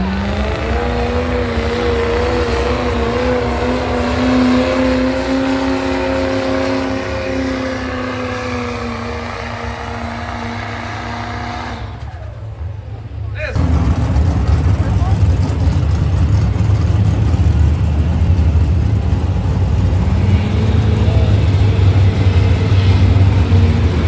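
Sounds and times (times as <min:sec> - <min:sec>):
diesel truck engine droning: 0:00.0 - 0:24.0.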